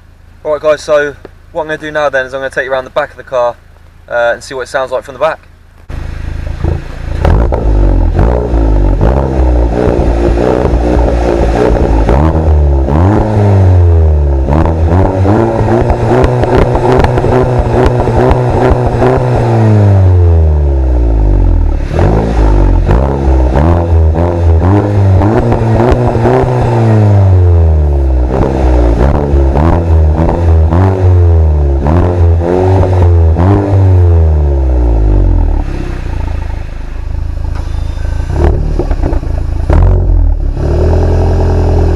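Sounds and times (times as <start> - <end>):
car engine revving: 5.9 - 41.9.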